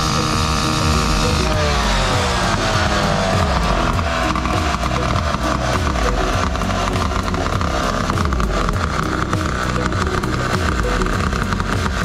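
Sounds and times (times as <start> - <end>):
disc cutter engine idling: 0.0 - 12.0.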